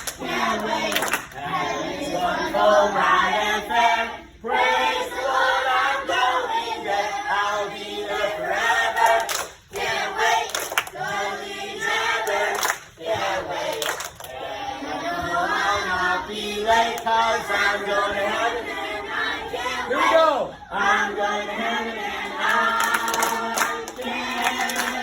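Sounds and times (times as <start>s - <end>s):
group singing in chorus: 0.0s - 25.0s.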